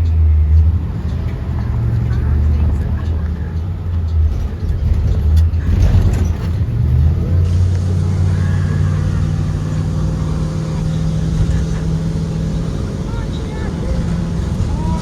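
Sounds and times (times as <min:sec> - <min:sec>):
bus engine low drone: 0:00.0 - 0:15.0.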